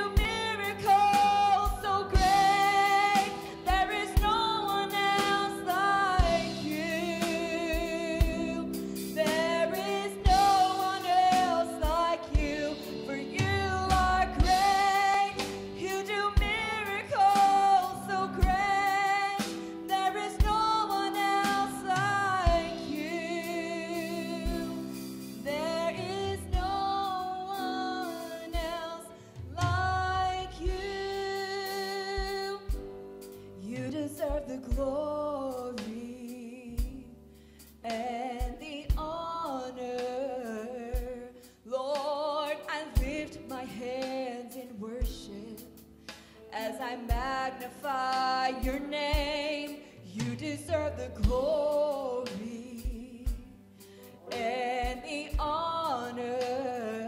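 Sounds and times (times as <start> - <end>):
woman singing: 0.0 - 45.8, 46.4 - 57.0
drum kit: 0.0 - 57.0
piano: 0.0 - 57.0.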